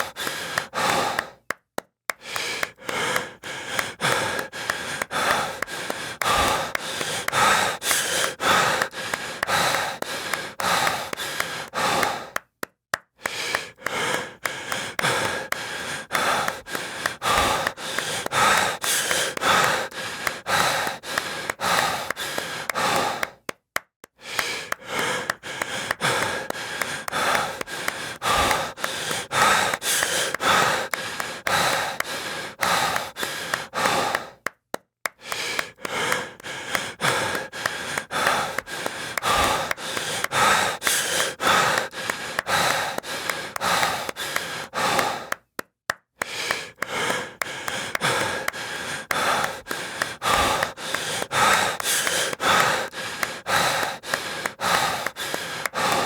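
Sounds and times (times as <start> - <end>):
person breathing heavily: 0.0 - 12.5, 13.2 - 23.5, 24.2 - 45.6, 46.2 - 56.0
sharp hand claps: 0.0 - 56.0.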